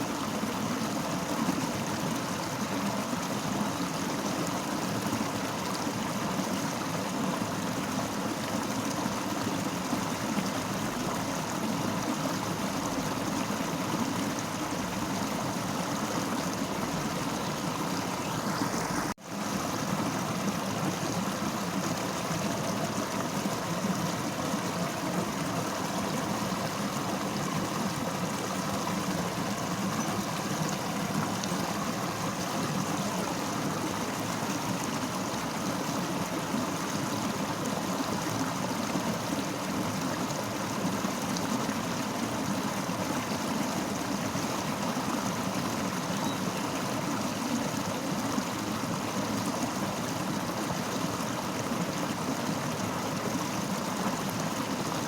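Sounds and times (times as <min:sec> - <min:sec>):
fast-flowing river rushing: 0:00.0 - 0:55.0.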